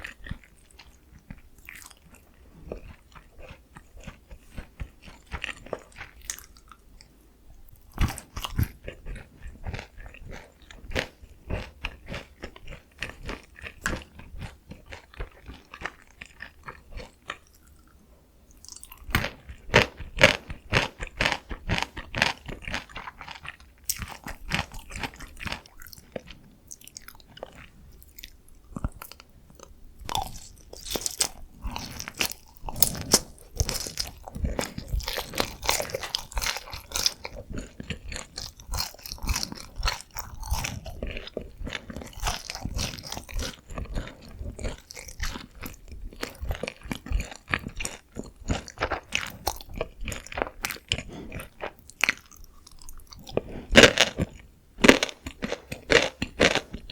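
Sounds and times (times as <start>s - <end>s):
crunching and chewing fried chicken: 0.0s - 56.9s.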